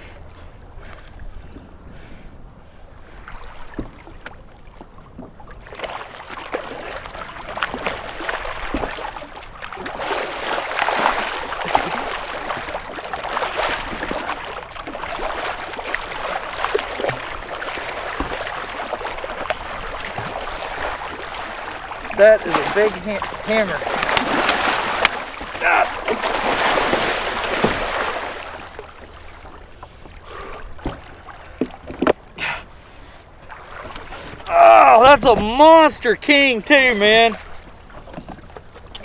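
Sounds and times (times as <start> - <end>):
water sloshing and splashing: 2.9 - 39.0.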